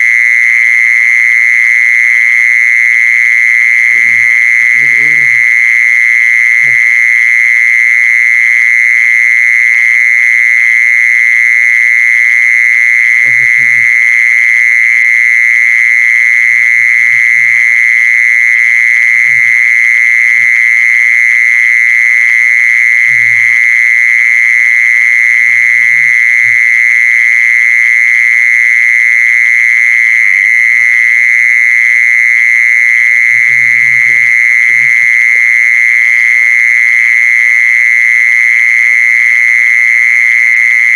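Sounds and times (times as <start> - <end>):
insect high-pitched drone: 0.0 - 40.9.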